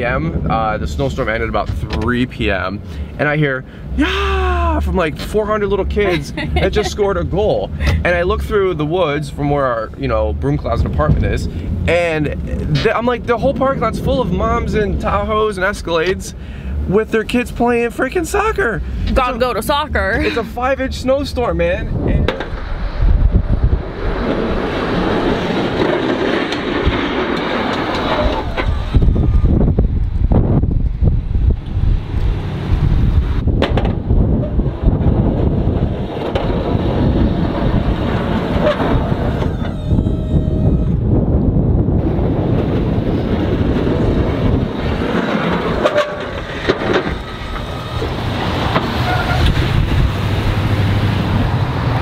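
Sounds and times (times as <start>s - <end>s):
wind buffeting microphone: 0.0s - 3.2s, 3.8s - 17.5s, 18.2s - 52.0s
plow blade scraping pavement: 4.6s - 29.4s, 31.5s - 39.8s, 41.9s - 52.0s.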